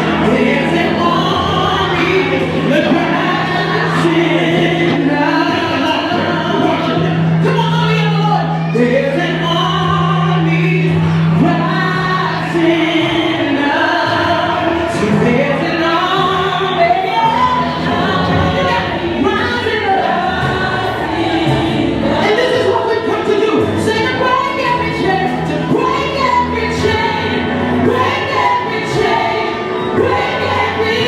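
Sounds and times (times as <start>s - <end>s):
group gospel singing: 0.0s - 31.0s
instrumental backing: 0.0s - 31.0s.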